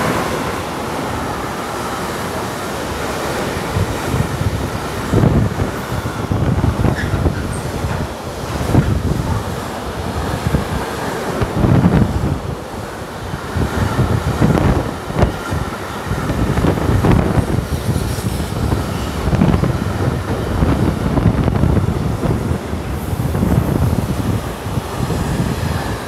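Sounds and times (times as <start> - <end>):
freight train passing: 0.0 - 26.0
steel wheels clattering on rails: 0.0 - 26.0.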